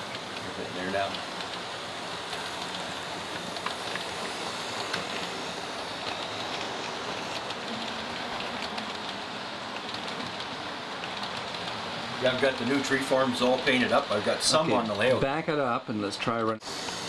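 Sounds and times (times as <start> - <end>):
model train wheels whirring: 0.0 - 15.5, 16.6 - 17.0.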